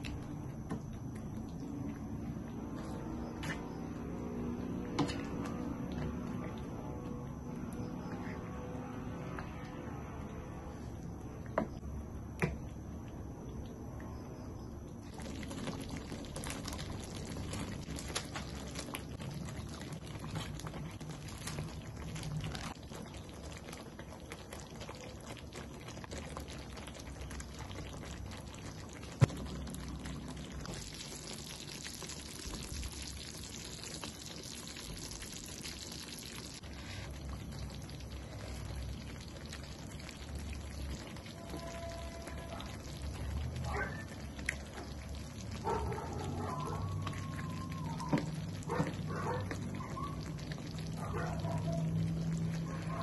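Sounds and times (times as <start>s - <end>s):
sauce simmering and bubbling: 0.0s - 53.0s.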